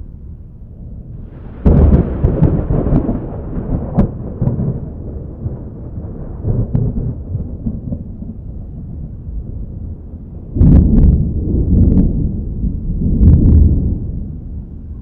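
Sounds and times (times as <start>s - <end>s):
thunder rumbling and clapping: 0.7s - 15.0s.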